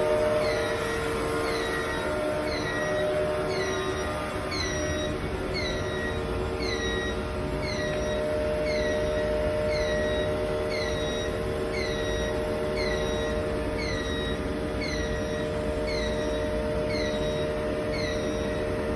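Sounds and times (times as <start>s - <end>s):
high squeal dropping in pitch: 0.0s - 18.9s
steady machine hum: 0.0s - 18.9s.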